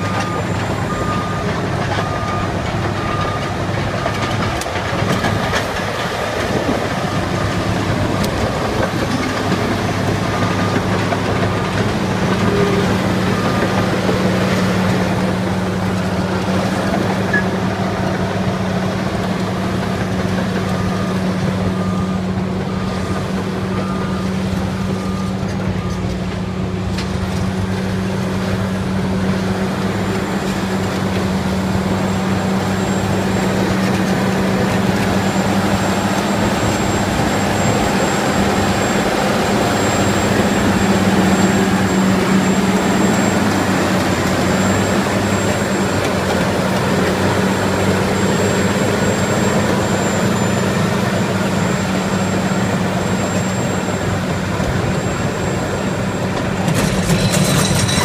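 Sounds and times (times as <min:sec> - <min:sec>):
diesel engine droning: 0:00.0 - 0:58.0
steel tracks clattering: 0:00.0 - 0:58.0.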